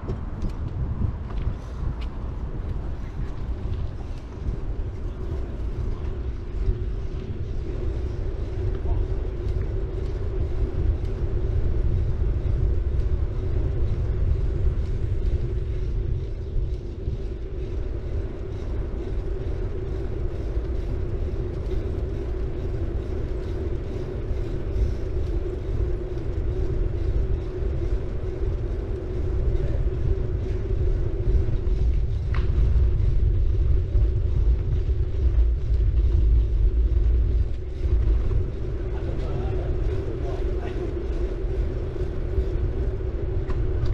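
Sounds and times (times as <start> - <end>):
bike tyres rolling on road: 0.0 - 43.9
constant hum: 0.0 - 43.9.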